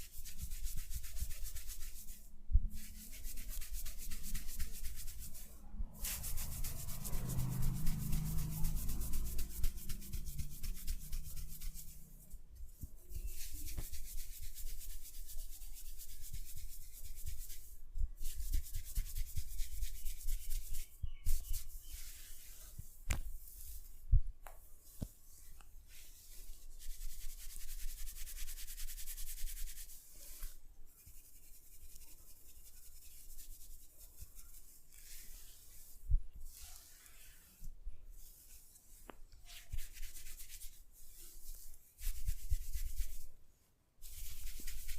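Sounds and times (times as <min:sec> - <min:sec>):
rubbing and scratching on scalp: 0:00.0 - 0:43.4, 0:44.0 - 0:44.9.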